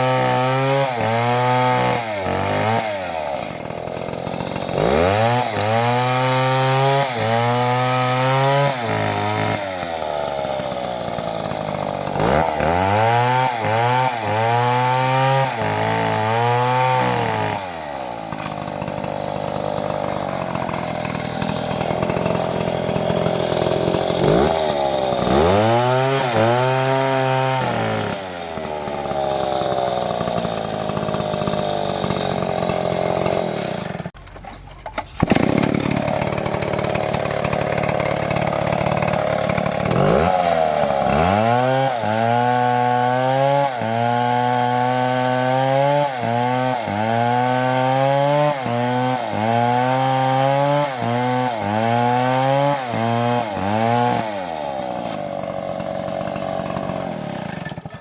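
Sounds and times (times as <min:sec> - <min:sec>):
chainsaw revving: 0:00.0 - 0:34.2, 0:35.1 - 0:58.0.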